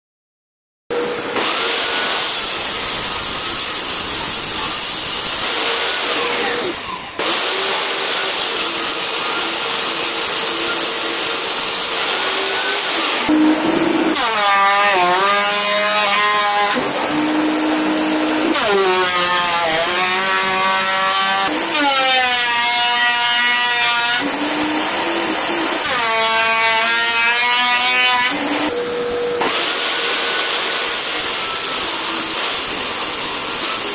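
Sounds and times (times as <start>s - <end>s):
planer cutterhead buzzing: 0.9s - 33.9s
thickness planer running: 0.9s - 33.9s.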